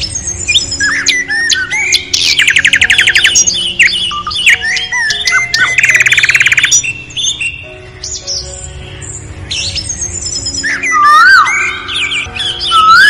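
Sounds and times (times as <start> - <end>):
bird trills: 0.0 - 13.0
birds chirping and whistling: 0.0 - 13.0
soft background music: 0.0 - 13.0.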